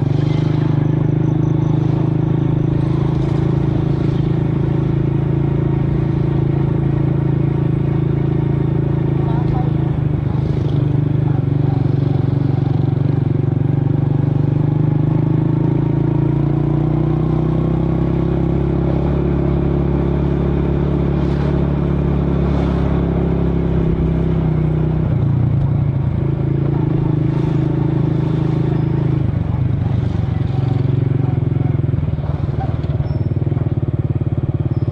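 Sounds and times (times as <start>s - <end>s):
scooter engine running: 0.0s - 34.9s.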